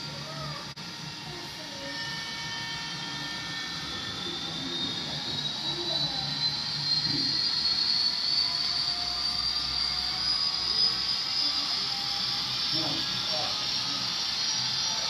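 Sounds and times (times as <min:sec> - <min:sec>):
model train high whine: 0:00.0 - 0:15.0.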